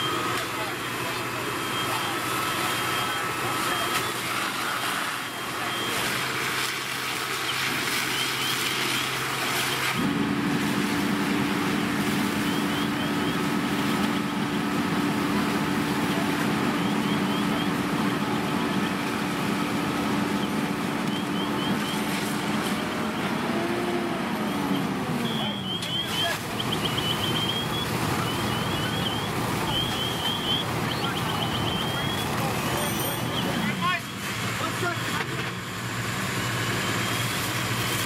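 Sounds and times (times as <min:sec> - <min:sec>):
fire engine pump hum: 0:00.0 - 0:38.0
water rushing from nozzle: 0:00.0 - 0:38.0.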